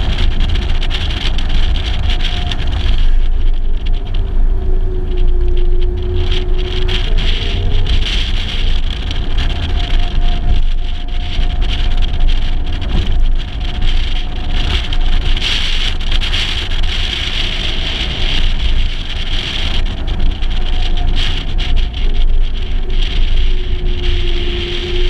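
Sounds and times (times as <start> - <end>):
car engine running: 0.0 - 25.0
road noise: 0.0 - 25.0
wind buffeting: 0.0 - 25.0.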